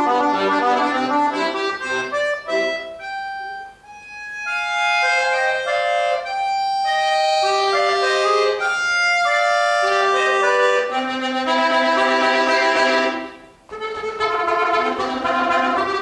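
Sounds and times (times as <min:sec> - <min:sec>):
accordion melody: 0:00.0 - 0:16.0.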